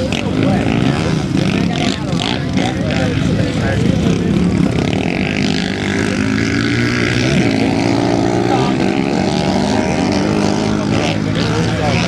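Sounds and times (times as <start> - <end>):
quad engines revving: 0.0 - 12.0.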